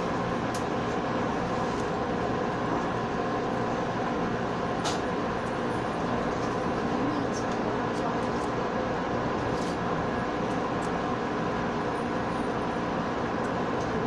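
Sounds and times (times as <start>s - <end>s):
electric train rumbling and humming: 0.0s - 14.0s.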